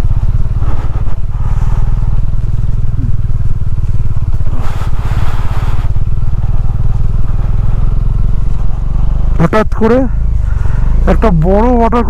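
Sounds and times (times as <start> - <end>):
rushing noise: 0.0 - 11.4
motorcycle engine running: 0.0 - 12.0.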